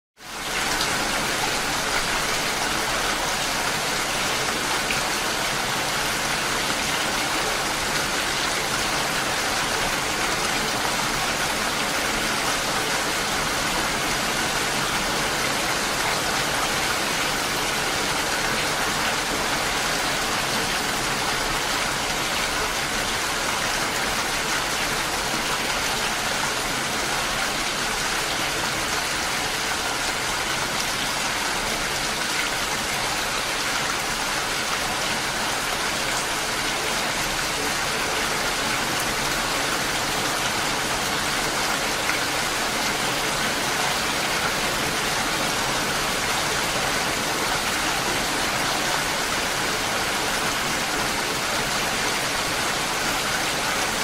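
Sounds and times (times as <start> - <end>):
heavy rain falling: 0.2 - 54.0.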